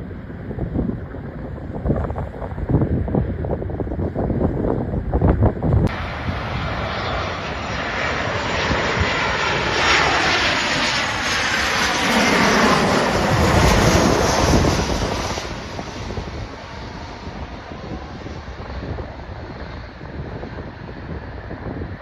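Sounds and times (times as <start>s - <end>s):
airplane engines roaring: 0.0s - 22.0s
wind gusts on microphone: 0.0s - 22.0s.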